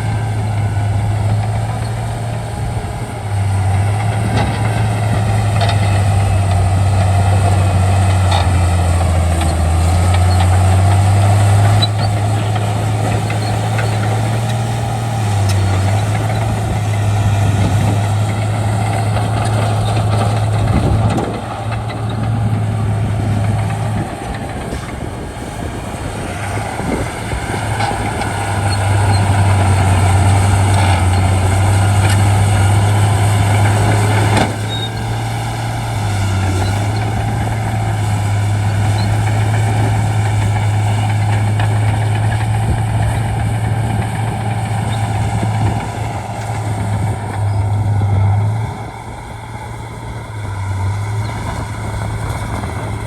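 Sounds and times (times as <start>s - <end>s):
bulldozer diesel engine droning: 0.0s - 53.0s.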